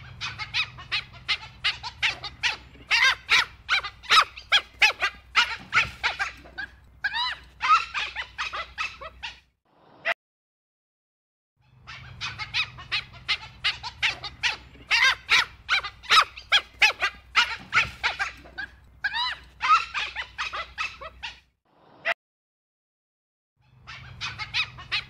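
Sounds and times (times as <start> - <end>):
wild dog squeaky chirps: 0.0 - 9.5, 11.6 - 21.5, 23.6 - 25.0.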